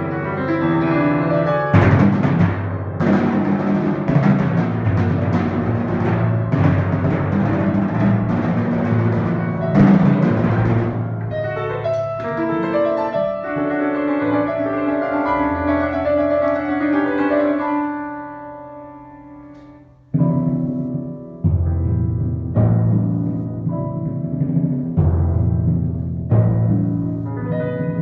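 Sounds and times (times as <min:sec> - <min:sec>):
piano chords ringing: 0:00.0 - 0:03.0, 0:03.7 - 0:28.0
timpani rolls and strokes: 0:00.0 - 0:18.1, 0:19.4 - 0:28.0.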